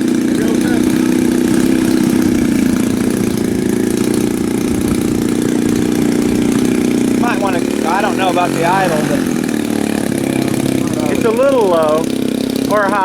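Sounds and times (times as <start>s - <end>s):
model airplane engine idling: 0.0s - 13.0s.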